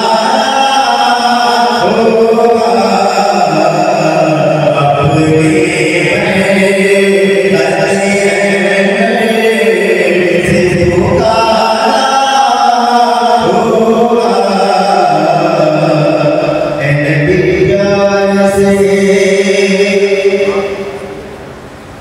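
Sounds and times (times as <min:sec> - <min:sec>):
man chanting into microphone: 0:00.0 - 0:21.4.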